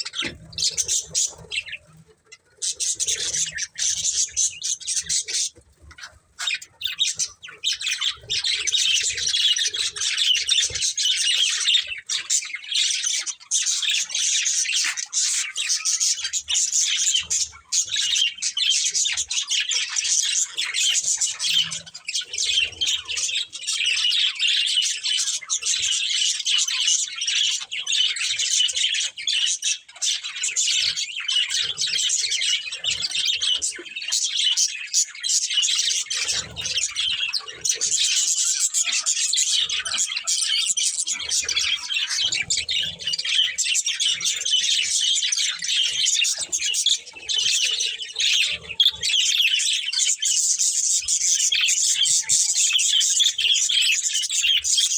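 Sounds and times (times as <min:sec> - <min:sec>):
bird squawks: 0:00.0 - 0:54.9
budgerigars chirping: 0:00.0 - 0:54.9.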